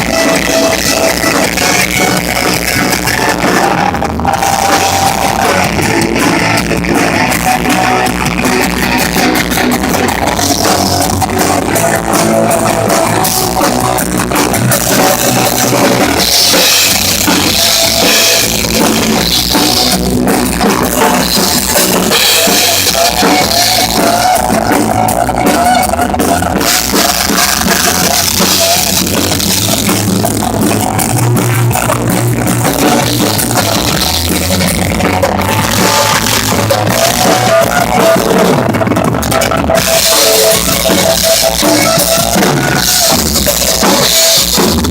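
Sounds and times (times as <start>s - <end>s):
loud rock music: 0.0s - 44.9s.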